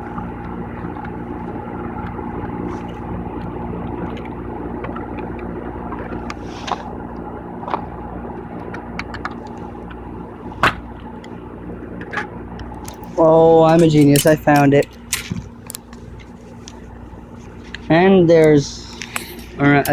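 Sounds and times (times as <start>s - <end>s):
low mechanical drone: 0.0s - 19.9s.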